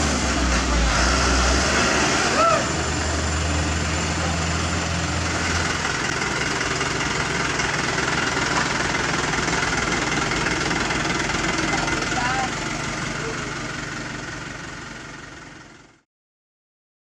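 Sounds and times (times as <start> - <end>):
heavy diesel engine running: 0.0 - 16.1.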